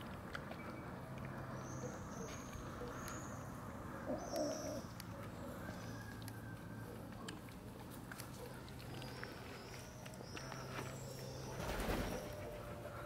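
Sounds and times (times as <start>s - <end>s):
cats chewing food: 0.0s - 11.5s
small birds chirping: 0.0s - 13.0s.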